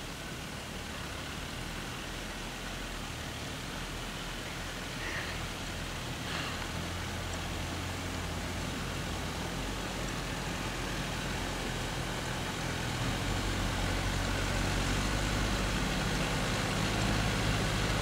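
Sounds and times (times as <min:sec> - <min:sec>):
dump truck engine running: 0:00.0 - 0:18.0.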